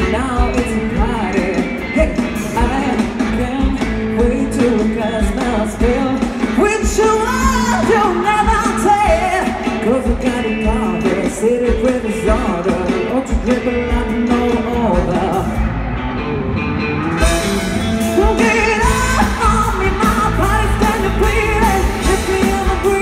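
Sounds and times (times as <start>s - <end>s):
man singing live: 0.0s - 15.7s, 17.4s - 23.0s.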